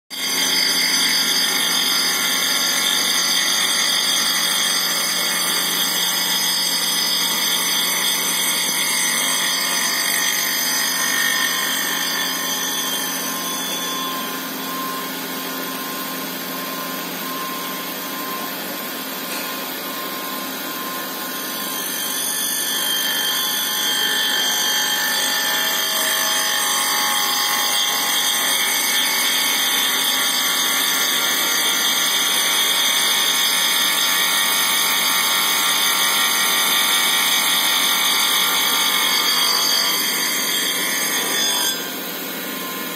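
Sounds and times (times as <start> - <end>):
power tool whine: 0.1 - 42.9.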